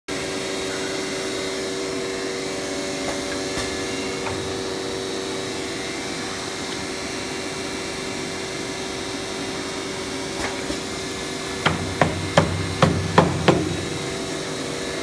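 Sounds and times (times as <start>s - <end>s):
cnc router machinery running: 0.1s - 15.0s.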